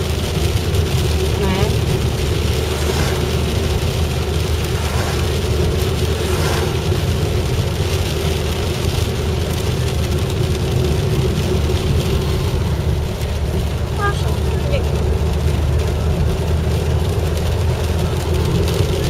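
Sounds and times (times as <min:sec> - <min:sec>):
car engine and road rumble: 0:00.0 - 0:19.0
tyre hiss on wet road: 0:00.0 - 0:19.0.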